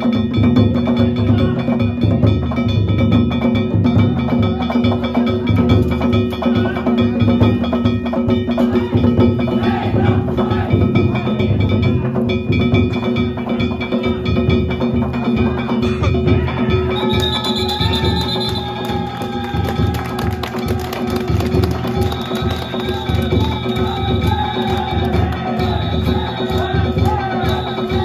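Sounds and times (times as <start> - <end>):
taiko drum fast rhythm: 0.0 - 28.0.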